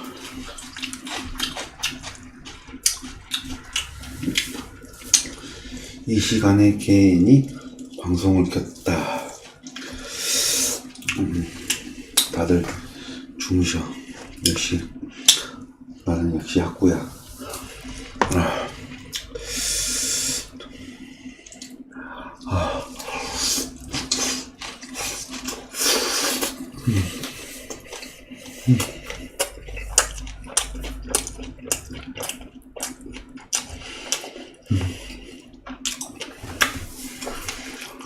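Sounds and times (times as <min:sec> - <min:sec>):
wet chewing and smacking: 0:00.0 - 0:13.4, 0:17.1 - 0:19.6, 0:20.2 - 0:38.0.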